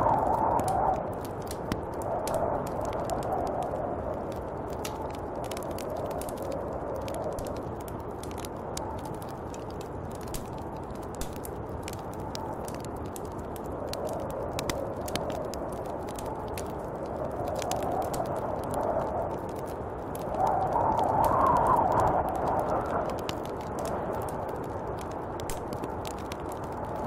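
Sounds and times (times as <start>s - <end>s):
small crackling ticks: 0.0s - 27.0s
wind blowing in gusts: 0.0s - 27.0s.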